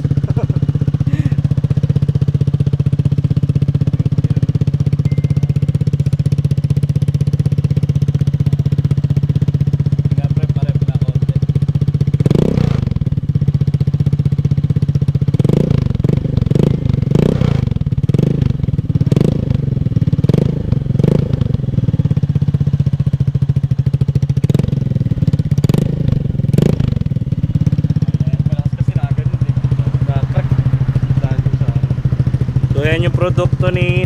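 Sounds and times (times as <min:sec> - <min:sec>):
motorcycle engine idling: 0:00.0 - 0:34.0
motorcycle throttle blips: 0:00.0 - 0:34.0.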